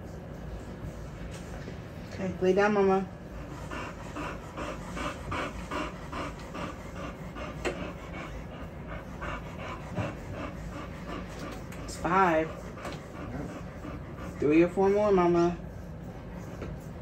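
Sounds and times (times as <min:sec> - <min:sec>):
dog panting fast: 0:00.0 - 0:17.0.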